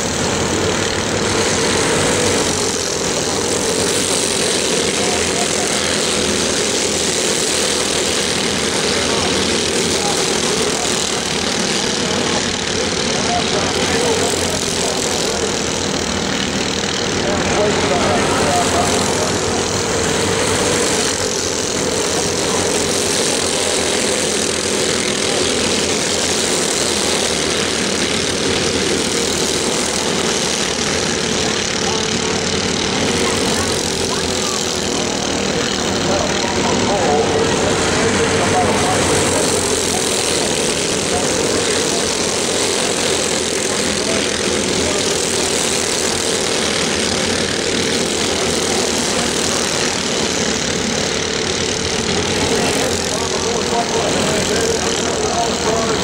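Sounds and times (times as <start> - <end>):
go-kart engines buzzing: 0.0 - 56.0.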